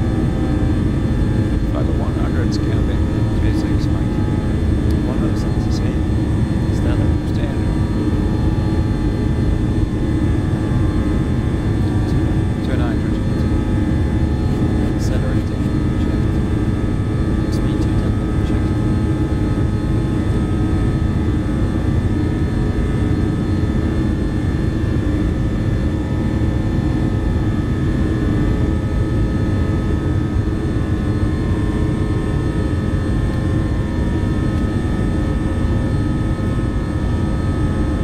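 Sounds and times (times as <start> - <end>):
jet engines humming: 0.0 - 38.0.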